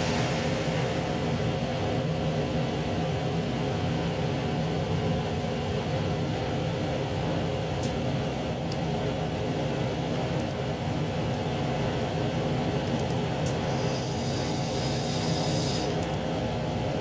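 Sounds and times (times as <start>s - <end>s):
railcar engine drone and rumble: 0.0s - 17.0s.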